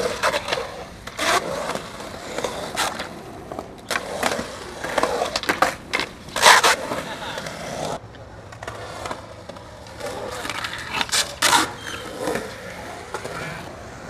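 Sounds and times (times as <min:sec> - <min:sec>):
skateboard clacks and scrapes: 0:00.0 - 0:14.0
skateboard wheels rolling on concrete: 0:00.0 - 0:14.0.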